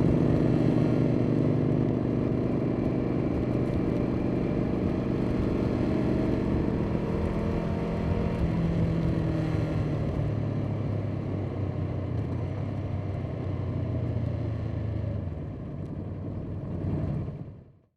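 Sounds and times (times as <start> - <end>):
motorcycle engine running: 0.0 - 16.7.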